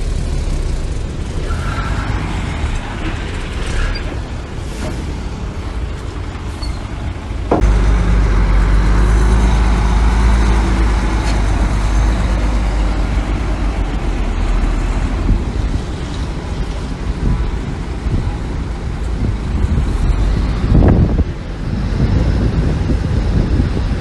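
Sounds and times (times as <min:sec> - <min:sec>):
diesel engine of heavy machinery: 0:00.0 - 0:24.0.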